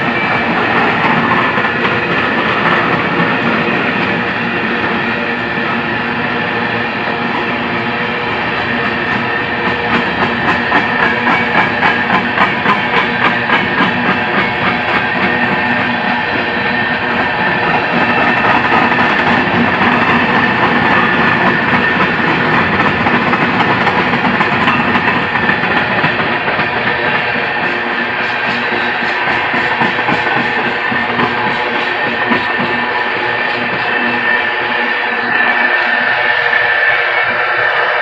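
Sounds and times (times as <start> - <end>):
train wheels clacking on rail joints: 0.0 - 5.8, 8.2 - 34.9
train rumble: 0.0 - 38.0.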